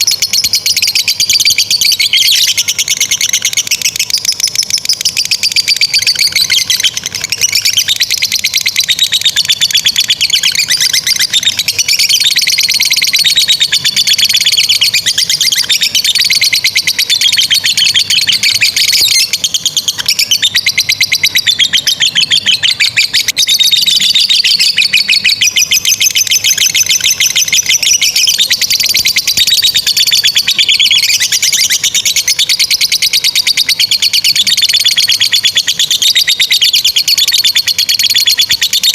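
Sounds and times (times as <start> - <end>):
lovebirds chattering trill: 0.0 - 38.9.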